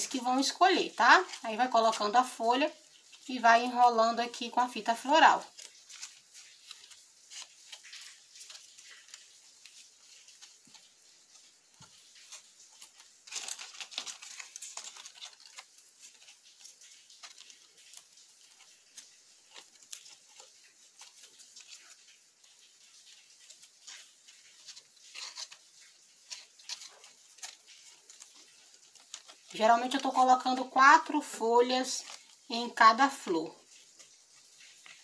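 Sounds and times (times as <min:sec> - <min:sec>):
tape rustling and crackling: 0:00.0 - 0:35.0.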